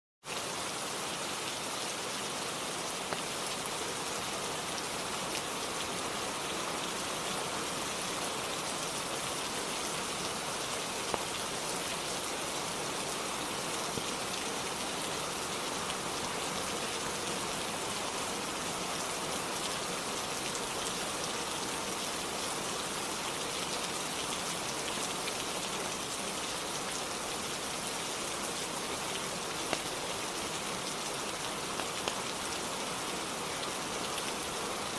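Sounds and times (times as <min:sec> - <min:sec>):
steady rainfall: 0:00.2 - 0:34.9.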